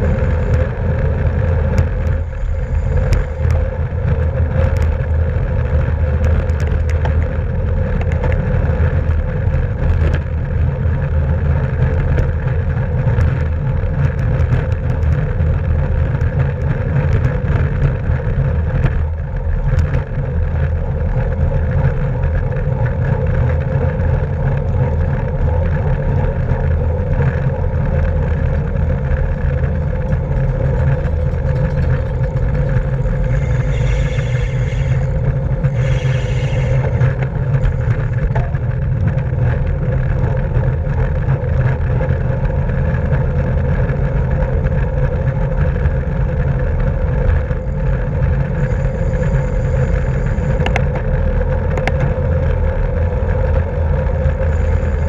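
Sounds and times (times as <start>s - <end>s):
bicycle tyre hum: 0.0s - 55.0s
wind rushing over microphone: 0.0s - 55.0s.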